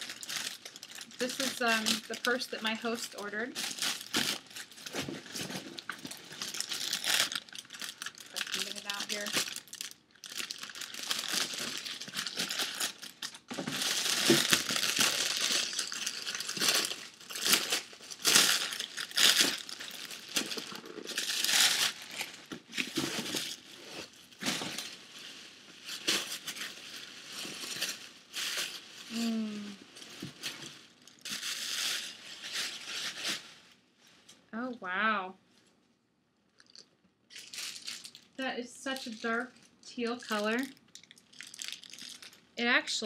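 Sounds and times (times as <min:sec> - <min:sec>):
packaging crinkling and rustling: 0:00.0 - 0:33.8, 0:36.6 - 0:42.5.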